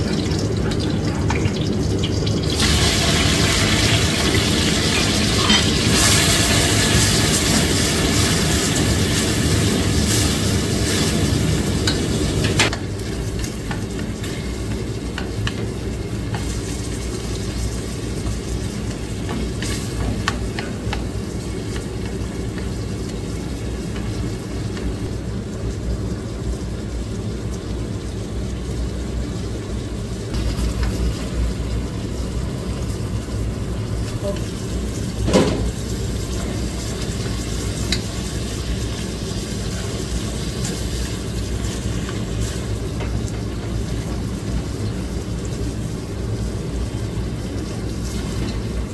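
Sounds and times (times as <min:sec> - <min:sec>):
food sizzling in hot pan: 0:00.0 - 0:48.9.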